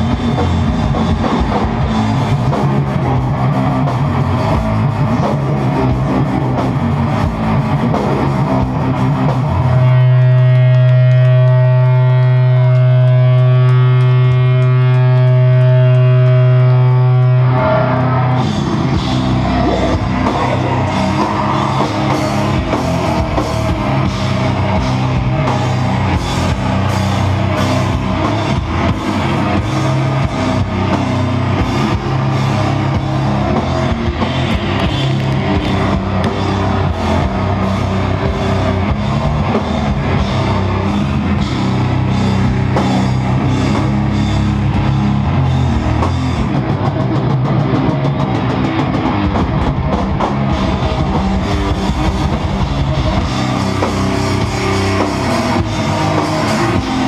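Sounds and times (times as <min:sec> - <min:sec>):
distorted electric guitar: 0:00.0 - 0:57.0
drum kit: 0:00.0 - 0:57.0.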